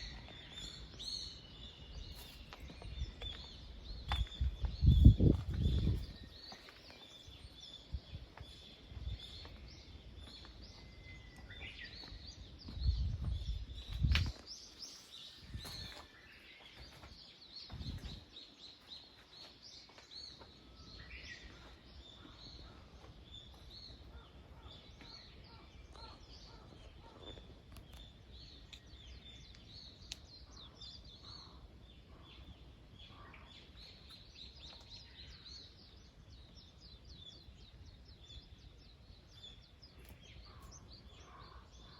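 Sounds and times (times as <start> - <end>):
faint outdoor background: 0.0 - 41.9
small birds chirping: 0.0 - 41.9.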